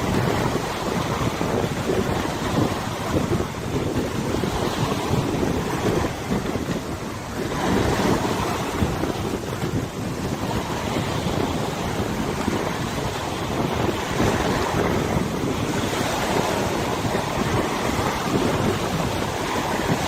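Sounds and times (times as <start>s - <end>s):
river water washing: 0.0s - 20.0s
wind buffeting microphone: 0.0s - 20.0s.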